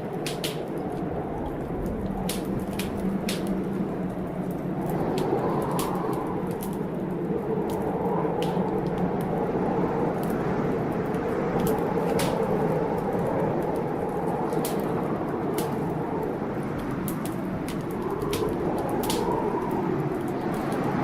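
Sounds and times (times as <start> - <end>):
low storm noise: 0.0 - 21.0
wood fire crackling and popping: 0.0 - 21.0.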